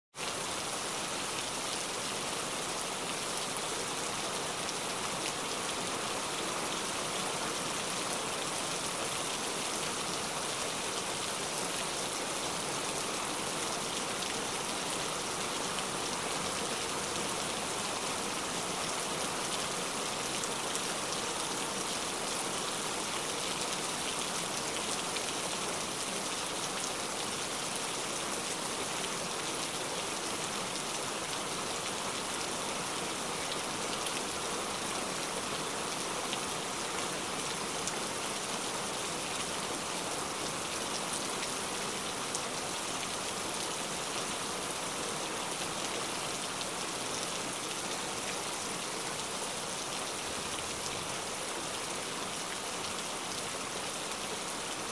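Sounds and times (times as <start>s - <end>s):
rain falling: 0.1s - 54.9s.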